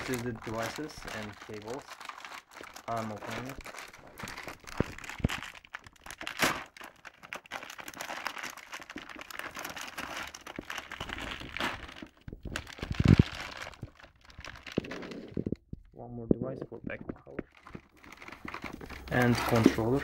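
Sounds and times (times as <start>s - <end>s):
packaging crinkling and rustling: 0.0s - 15.8s, 16.6s - 20.0s.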